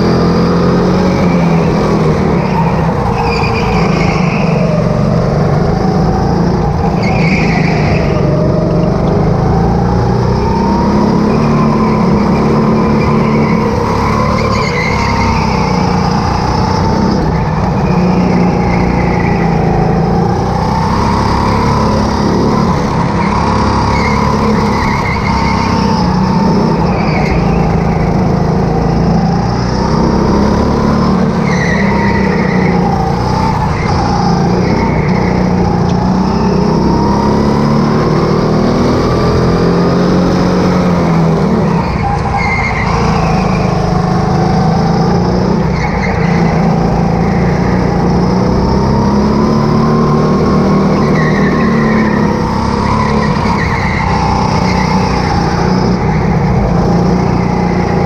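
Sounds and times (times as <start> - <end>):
go-kart motor: 0.0 - 58.0
tyre squeals: 0.7 - 5.0, 6.1 - 9.3, 10.3 - 28.5, 29.6 - 37.5, 40.5 - 58.0.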